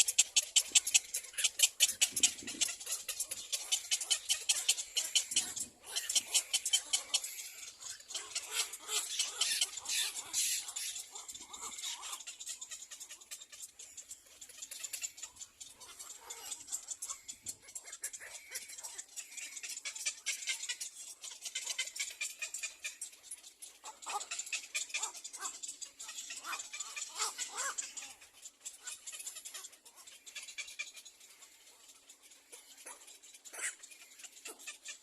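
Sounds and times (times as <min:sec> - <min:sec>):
birds rapid high clicks: 0:00.0 - 0:35.0
short squeaky bird calls: 0:00.0 - 0:35.0.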